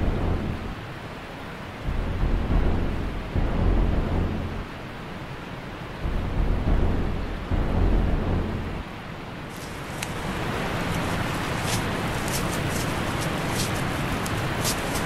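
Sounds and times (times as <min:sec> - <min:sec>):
deep rumbling: 0:00.0 - 0:00.9, 0:01.8 - 0:05.1, 0:05.9 - 0:14.6
steady rushing noise: 0:00.0 - 0:15.0.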